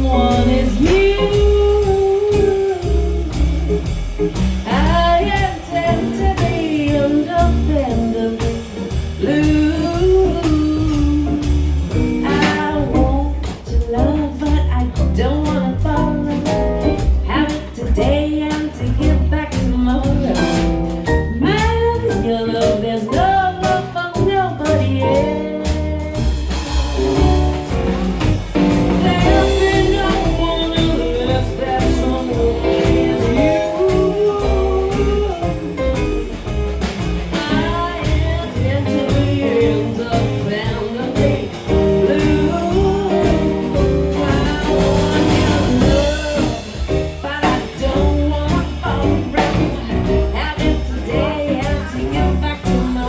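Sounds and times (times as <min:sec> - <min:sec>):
jazz combo playing: 0:00.0 - 0:53.0.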